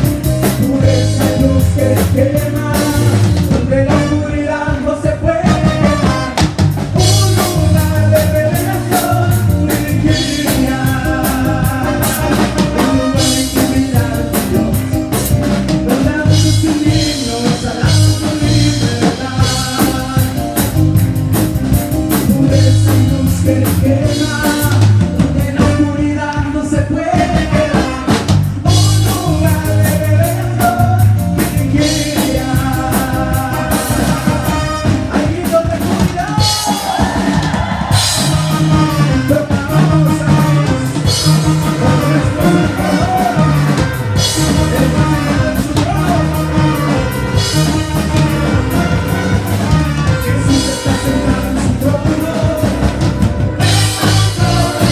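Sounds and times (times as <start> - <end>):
person singing: 0.0 - 6.4, 7.0 - 54.9
drum kit: 0.0 - 54.9
live band music: 0.0 - 54.9.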